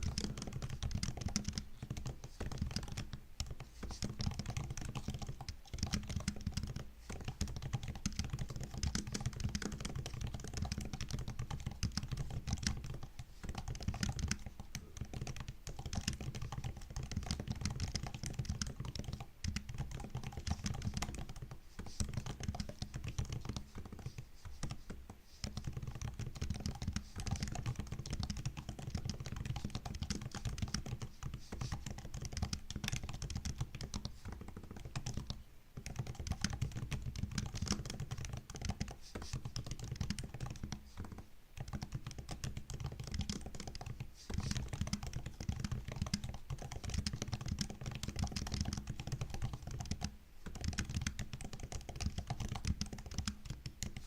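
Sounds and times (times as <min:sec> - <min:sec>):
fast typing on laptop keyboard: 0:00.0 - 0:54.0.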